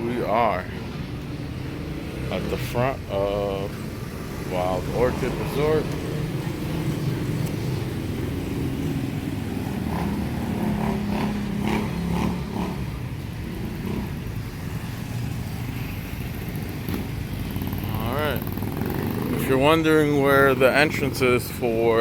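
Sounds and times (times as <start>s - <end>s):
vehicles passing with engine rumble: 0.0s - 22.0s.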